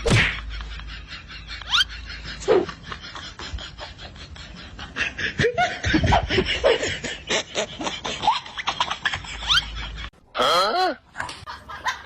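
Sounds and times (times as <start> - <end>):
person laughing: 0.2 - 12.0.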